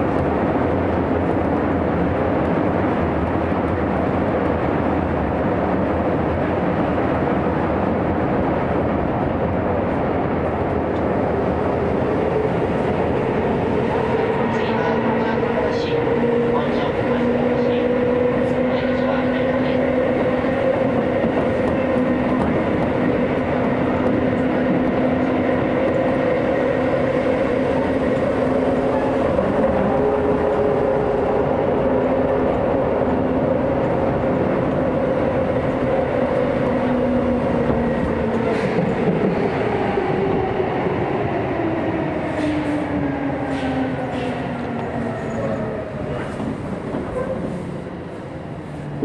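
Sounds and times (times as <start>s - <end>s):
train wheels rumbling on rails: 0.0s - 49.0s.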